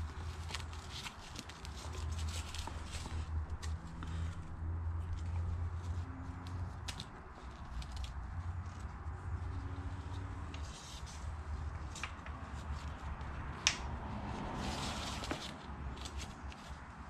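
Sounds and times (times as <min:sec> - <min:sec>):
webbing straps rustling and sliding: 0:00.0 - 0:17.0.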